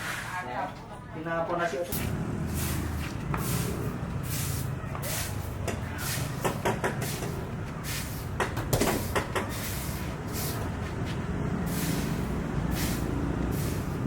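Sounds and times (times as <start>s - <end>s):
passing hiss: 2.0s - 10.8s, 11.5s - 14.0s.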